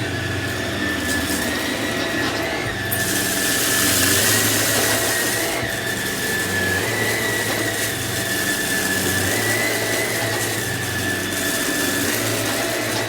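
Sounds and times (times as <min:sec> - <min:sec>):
upright vacuum running: 0:00.0 - 0:13.0.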